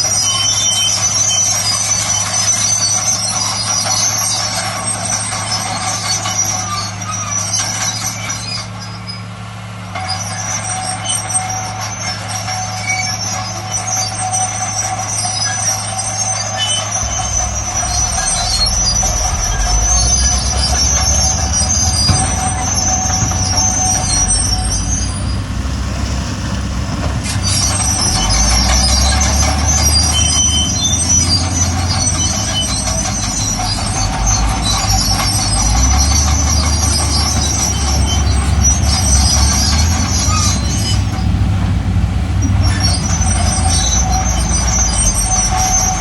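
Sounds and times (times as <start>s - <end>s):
bulldozer engine rumbling: 0.0s - 46.0s
steel tracks squealing: 0.0s - 46.0s.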